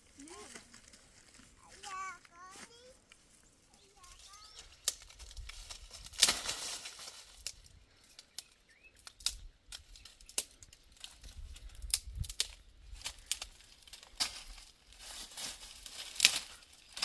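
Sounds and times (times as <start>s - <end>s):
crisp snaps and tearing crackles: 0.2s - 17.0s.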